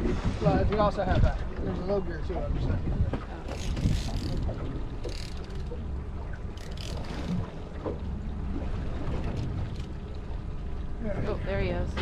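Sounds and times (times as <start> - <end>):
boat engine idling: 1.7 - 12.0.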